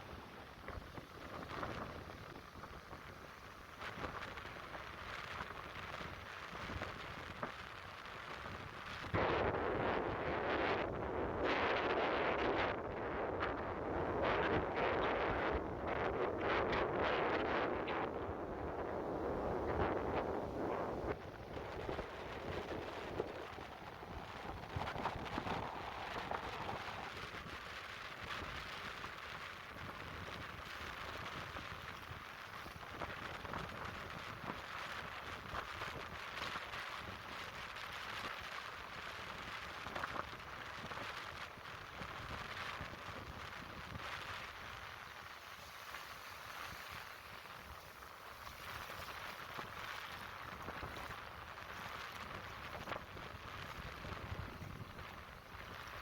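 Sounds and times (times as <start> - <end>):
surf washing on beach: 0.0 - 56.0
wind rumble on microphone: 0.0 - 56.0.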